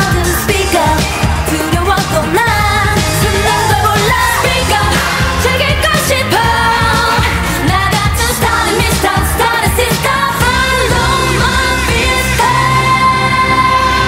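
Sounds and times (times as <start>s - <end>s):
electronic dance-pop backing track: 0.0s - 14.0s
women singing: 0.0s - 14.0s.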